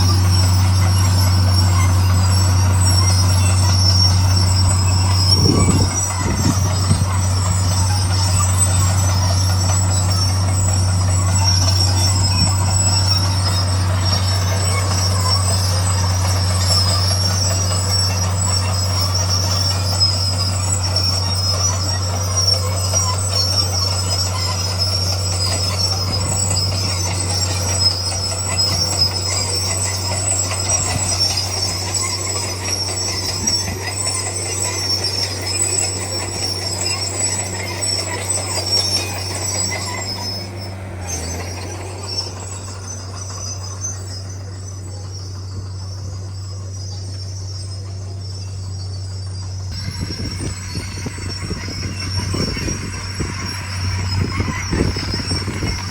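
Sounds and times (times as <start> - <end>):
bulldozer engine drone: 0.0 - 55.9
steel tracks squealing: 0.0 - 55.9.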